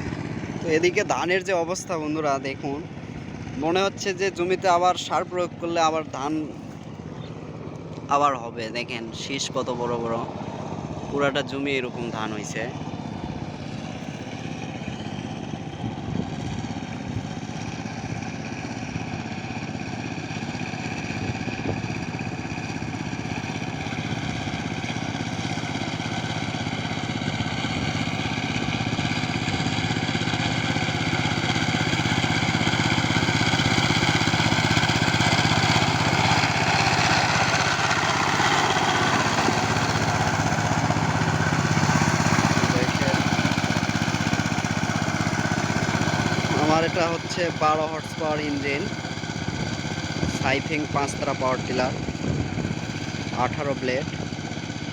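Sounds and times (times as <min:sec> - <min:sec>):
power tiller diesel engine running: 0:00.0 - 0:54.9.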